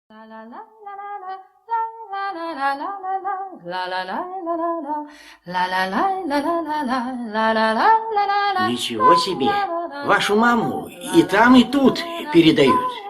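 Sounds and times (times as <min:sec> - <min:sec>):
woman singing: 0:00.1 - 0:13.0.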